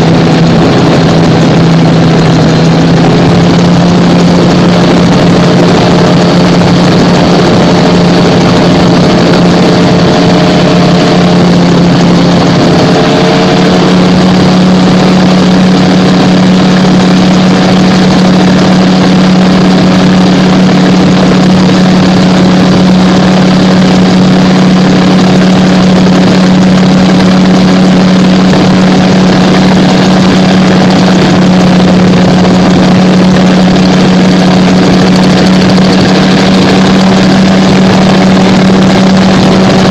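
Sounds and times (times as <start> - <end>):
gyrocopter engine and propeller drone: 0.0 - 39.9.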